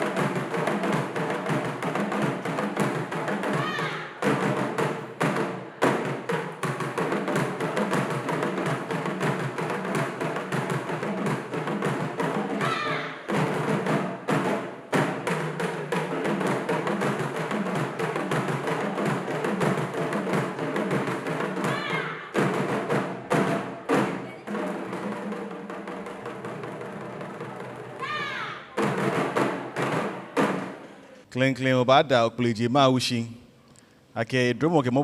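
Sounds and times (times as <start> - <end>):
music with fast drumming: 0.0 - 30.8.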